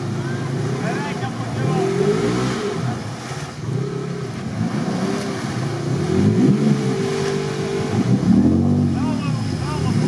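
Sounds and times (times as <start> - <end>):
water churning around wheels: 0.0 - 10.0
engine revving hard: 0.4 - 10.0.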